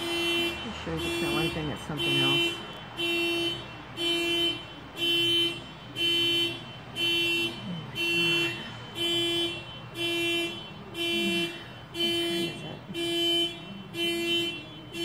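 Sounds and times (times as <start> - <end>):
car alarm horn honking: 0.0 - 15.0.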